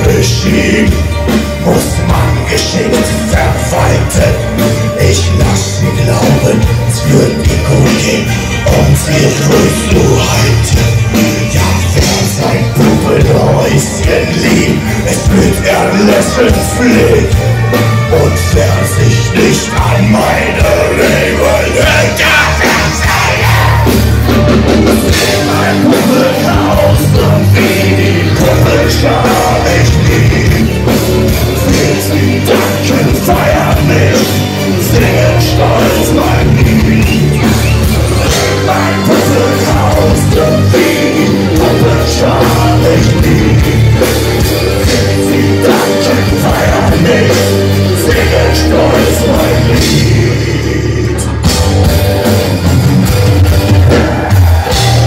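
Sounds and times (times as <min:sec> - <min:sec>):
person singing: 0:00.0 - 0:24.3, 0:25.0 - 0:51.6
bass guitar: 0:00.0 - 0:55.0
distorted electric guitar: 0:00.0 - 0:55.0
drum kit: 0:00.0 - 0:55.0.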